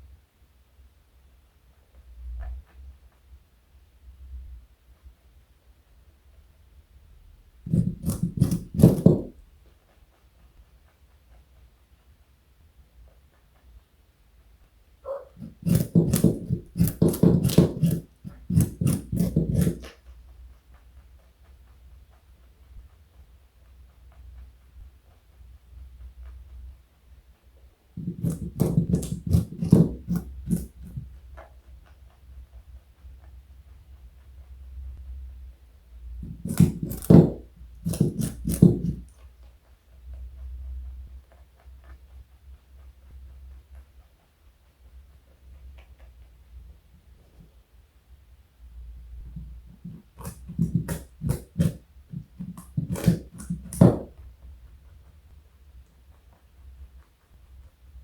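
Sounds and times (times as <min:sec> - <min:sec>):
rabbit chewing: 0:01.6 - 0:58.0
rabbit crunching a carrot: 0:07.6 - 0:13.8, 0:14.6 - 0:35.2, 0:36.1 - 0:47.5, 0:49.2 - 0:58.0.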